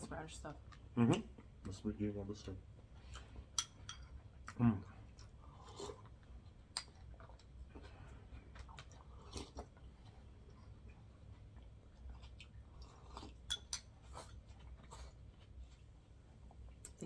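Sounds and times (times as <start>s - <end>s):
person chewing food: 0.0s - 1.9s, 2.7s - 17.0s.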